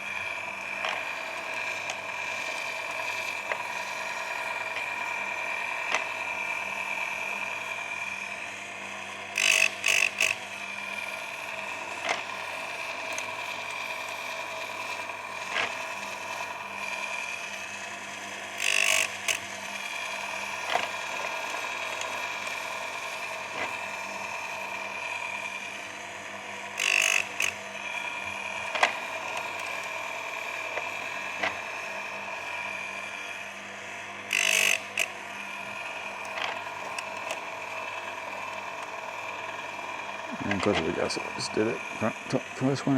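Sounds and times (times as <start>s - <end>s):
grinding wheel motor whine: 0.0s - 42.9s
harsh grinding bursts: 0.0s - 42.9s.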